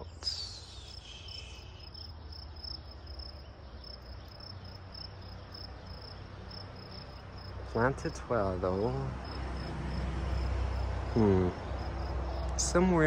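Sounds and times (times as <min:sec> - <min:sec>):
cricket chirping: 0:00.0 - 0:12.8.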